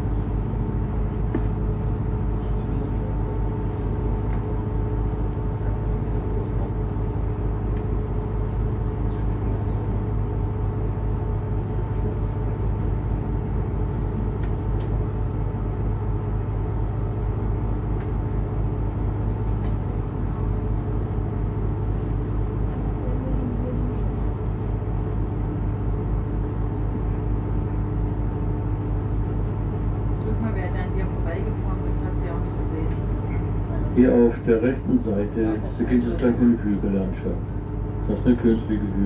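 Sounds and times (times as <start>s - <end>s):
boat motor droning: 0.0s - 39.0s.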